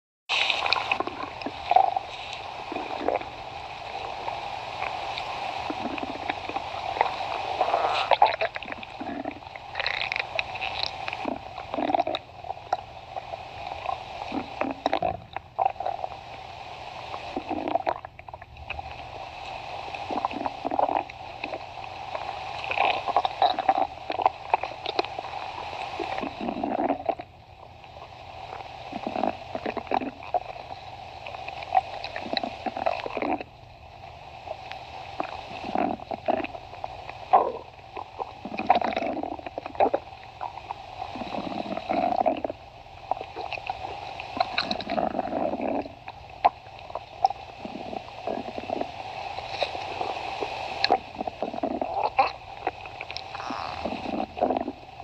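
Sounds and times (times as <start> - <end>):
stomach growling: 0.3 - 55.0.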